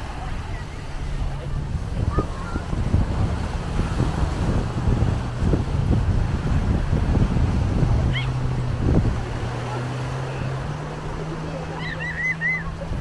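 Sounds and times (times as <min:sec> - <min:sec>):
faint distant voices: 0:00.0 - 0:13.0
small waves washing onto shore: 0:00.0 - 0:13.0
wind rumbling on microphone: 0:00.0 - 0:13.0.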